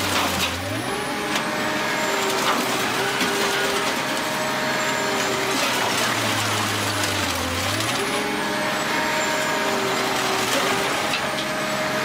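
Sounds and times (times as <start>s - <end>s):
heavy machinery running: 0.0s - 12.0s.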